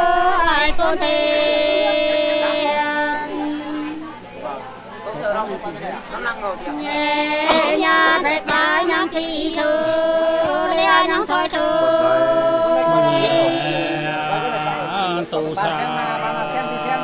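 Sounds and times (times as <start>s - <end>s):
lower voice singing: 0.0s - 4.2s, 6.7s - 17.0s
women singing unaccompanied: 0.0s - 4.4s, 6.5s - 17.0s.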